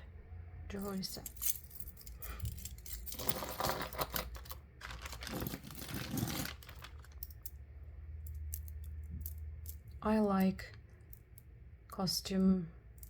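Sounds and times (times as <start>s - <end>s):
jewelry rustling and clinking: 0.8s - 11.6s.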